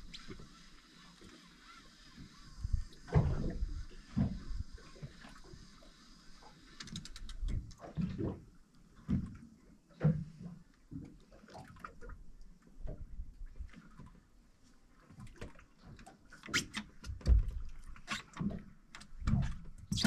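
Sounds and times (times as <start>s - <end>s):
water slapping boat hull: 0.0s - 14.4s, 15.0s - 20.0s.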